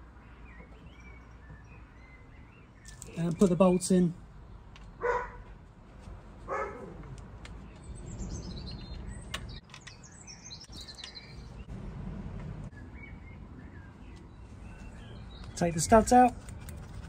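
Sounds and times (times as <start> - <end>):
songbird chirping: 0.0 - 5.8, 6.6 - 16.4.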